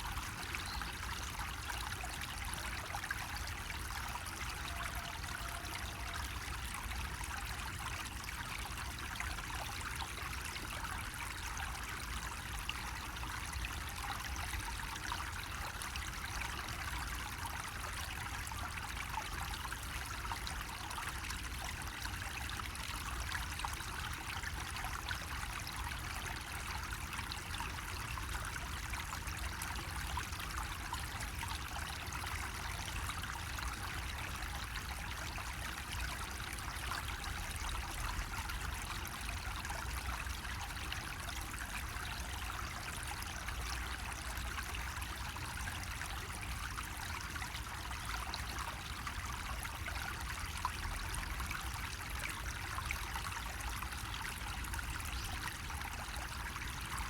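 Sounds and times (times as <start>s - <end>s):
water trickling from spout: 0.0s - 57.0s.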